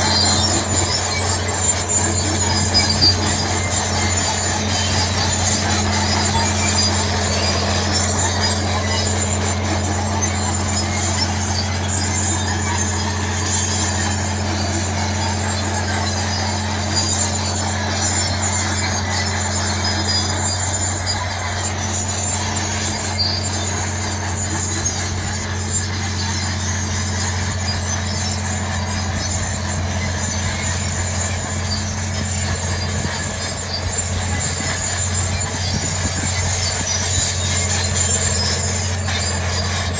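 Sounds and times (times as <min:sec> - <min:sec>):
diesel engine running under load: 0:00.0 - 0:39.9
steel tracks clanking: 0:00.0 - 0:39.9.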